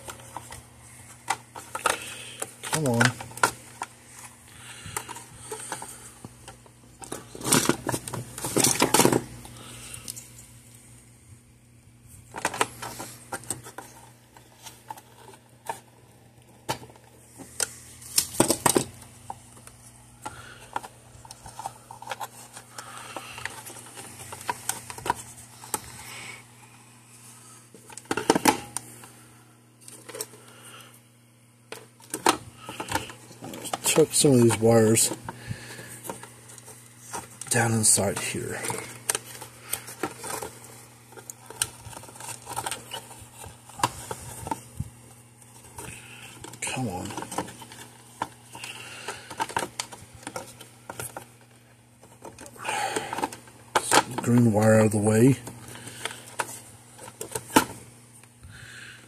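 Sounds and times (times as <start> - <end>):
clicks and rattles of wires: 0.0 - 10.4, 12.1 - 26.0, 31.7 - 58.4
steady low hum: 0.0 - 59.0.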